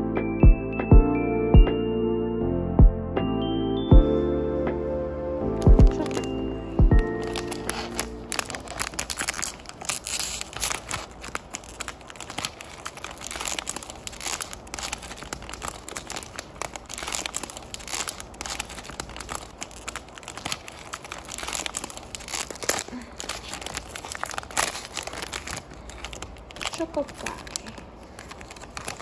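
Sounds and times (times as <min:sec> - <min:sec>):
plastic wrapper crinkling and tearing: 0:05.6 - 0:29.0.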